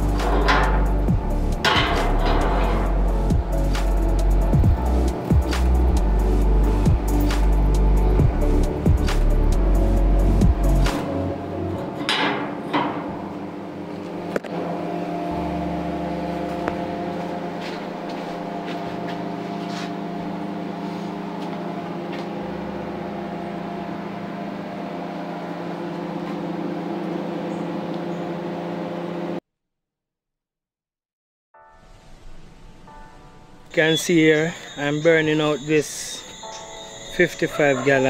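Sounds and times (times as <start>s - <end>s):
mechanical hum: 0.0s - 29.4s, 31.9s - 38.0s.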